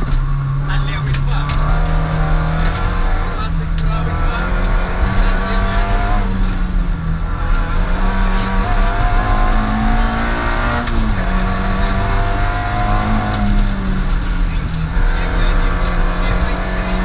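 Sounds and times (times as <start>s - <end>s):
rally car engine revving: 0.0s - 17.0s
road and tyre noise: 0.0s - 17.0s.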